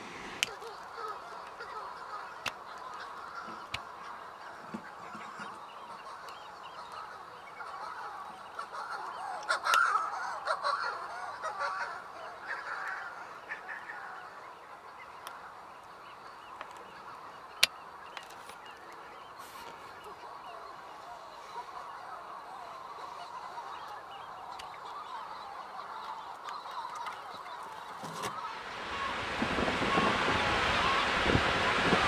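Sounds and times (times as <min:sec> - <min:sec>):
seabirds calling harshly: 0:00.0 - 0:32.0.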